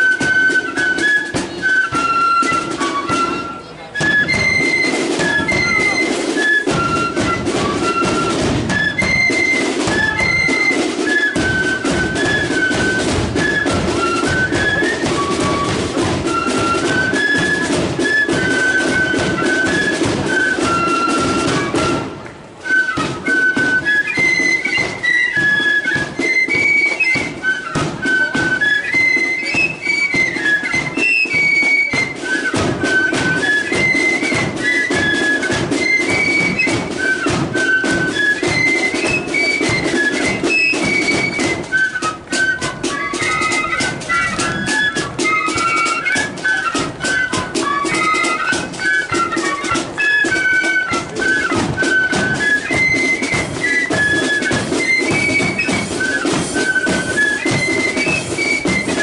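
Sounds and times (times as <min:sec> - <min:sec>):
flutes playing high melody: 0:00.0 - 0:59.0
marching drums: 0:00.0 - 0:59.0.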